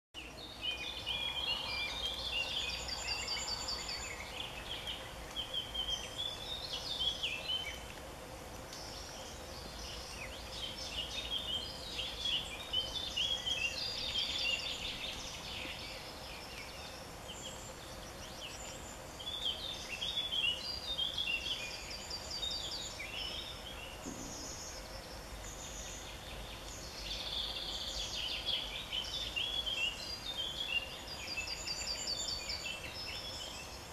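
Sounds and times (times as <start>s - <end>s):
songbirds chirping and trilling: 0.2s - 33.9s.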